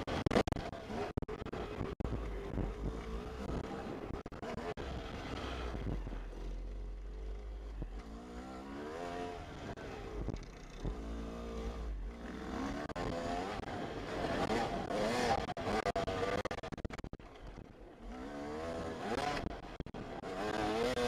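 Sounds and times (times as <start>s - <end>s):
dirt bike engine accelerating: 0.0s - 21.0s.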